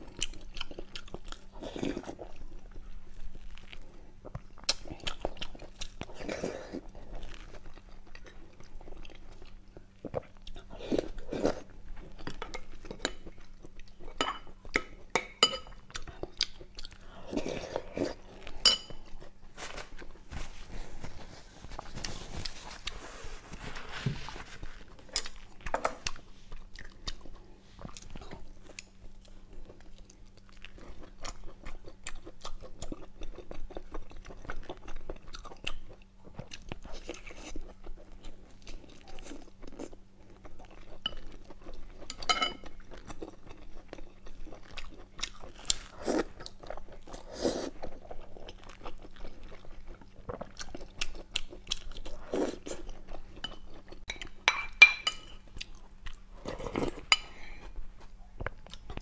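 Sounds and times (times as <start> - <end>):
chewing meat: 0.0 - 18.6, 24.9 - 54.4, 55.4 - 59.0.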